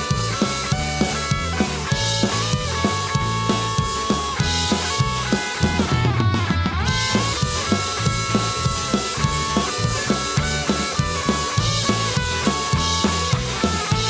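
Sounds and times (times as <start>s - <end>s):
bass and guitar: 0.0s - 14.0s
drum kit beat: 0.0s - 14.0s.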